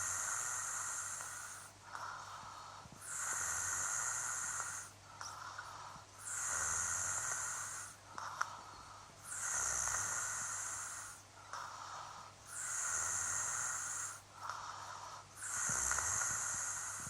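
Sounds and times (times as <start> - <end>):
man snoring: 0.0 - 2.4, 3.0 - 8.5, 9.2 - 17.0.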